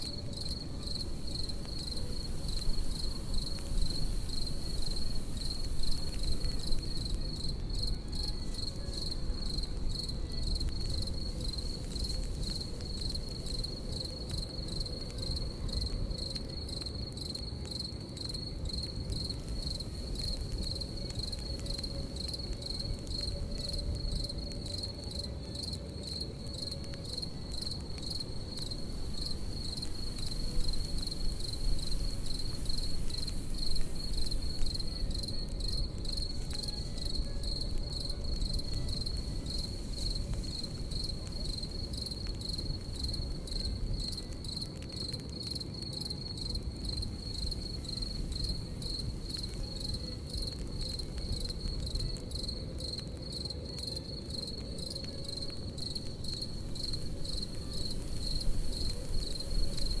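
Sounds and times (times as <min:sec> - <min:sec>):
campfire crackling: 0:00.0 - 1:00.0
crickets chirping: 0:00.0 - 1:00.0.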